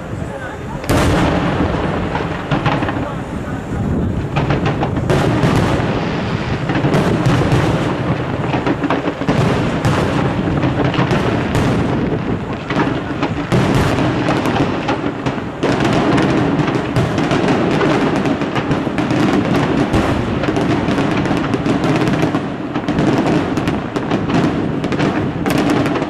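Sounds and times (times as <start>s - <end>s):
firework shells bursting: 0.0s - 26.0s.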